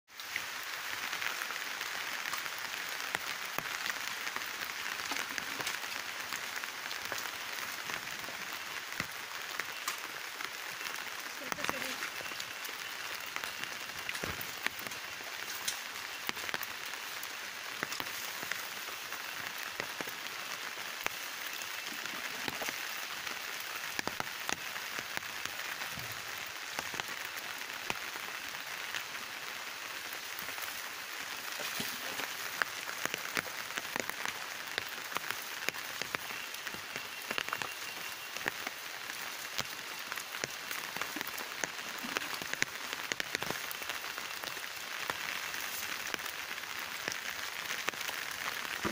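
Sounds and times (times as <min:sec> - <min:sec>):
rain falling: 0:00.1 - 0:48.9.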